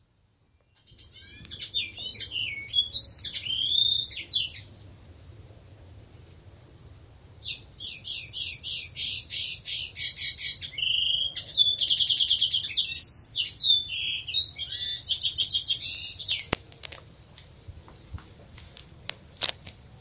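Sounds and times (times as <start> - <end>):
robin singing: 0.4 - 20.0.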